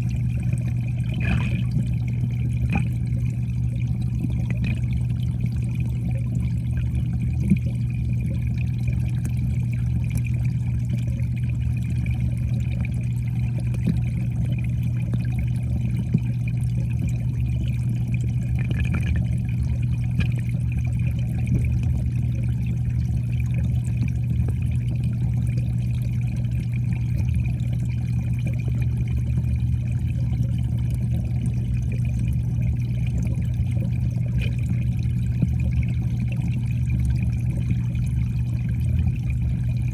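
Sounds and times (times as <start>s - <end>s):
constant low hum: 0.0s - 39.9s
muffled underwater water noise: 0.0s - 39.9s.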